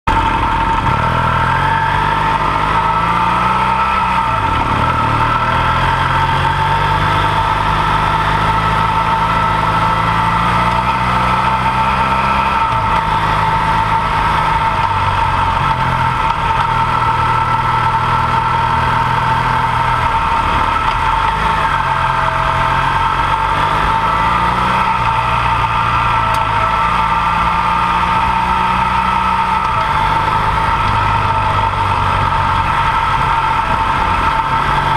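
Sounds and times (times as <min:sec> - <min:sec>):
high-pitched whine: 0:00.1 - 0:34.9
motorcycle engine revving: 0:00.1 - 0:34.9.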